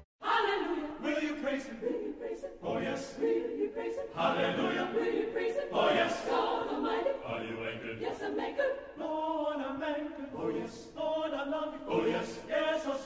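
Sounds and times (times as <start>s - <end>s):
mixed choir singing: 0.2s - 13.0s.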